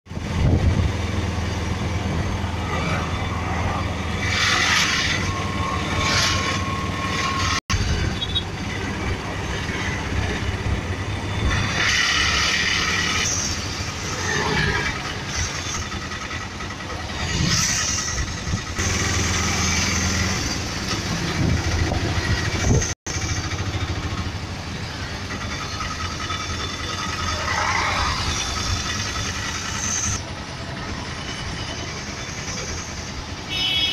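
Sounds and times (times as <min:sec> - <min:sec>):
road noise: 0:00.0 - 0:33.9
auto-rickshaw engine running: 0:00.1 - 0:33.9
vehicles passing: 0:00.1 - 0:33.9.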